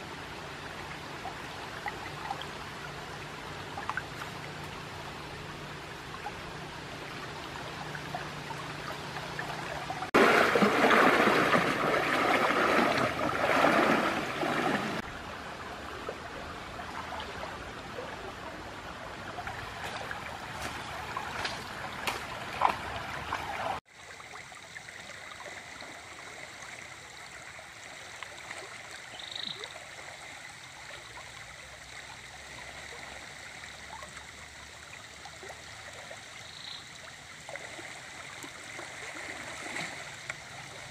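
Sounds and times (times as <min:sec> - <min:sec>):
stream water rushing over rapids: 0:00.0 - 0:40.9.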